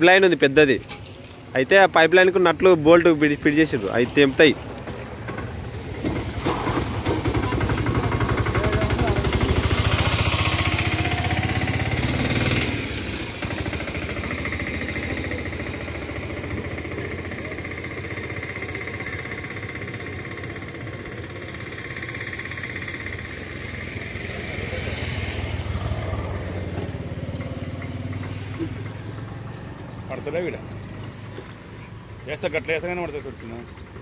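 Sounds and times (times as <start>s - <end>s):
small engine running: 2.1s - 34.0s.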